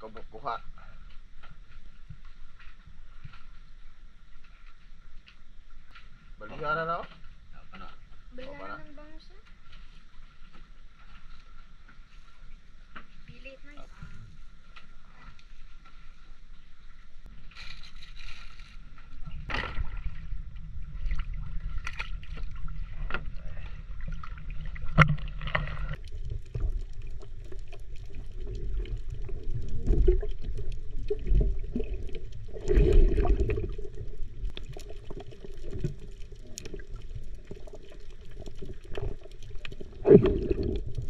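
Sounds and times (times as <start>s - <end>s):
underwater sloshing and knocking: 1.0s - 8.4s, 9.4s - 41.0s.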